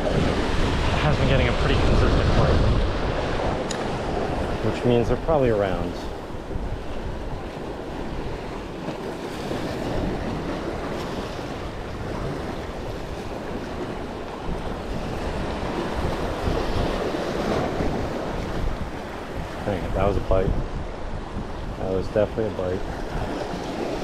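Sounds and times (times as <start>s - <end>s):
waves breaking on rocks: 0.0s - 24.0s
wind buffeting microphone: 0.0s - 24.0s.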